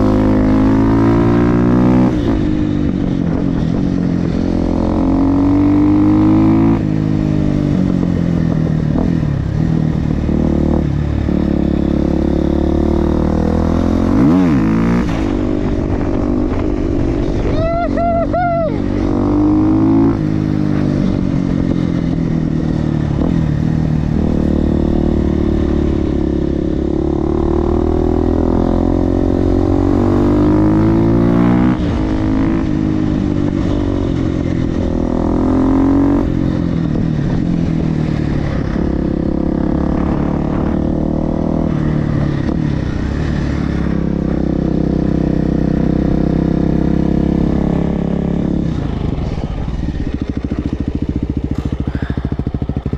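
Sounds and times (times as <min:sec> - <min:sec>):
motorcycle engine revving hard: 0:04.3 - 0:52.9.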